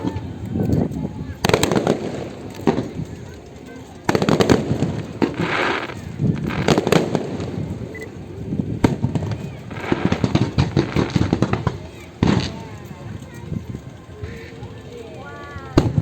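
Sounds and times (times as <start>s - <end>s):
fireworks bangs and crackling: 0.0s - 14.4s, 15.7s - 16.0s.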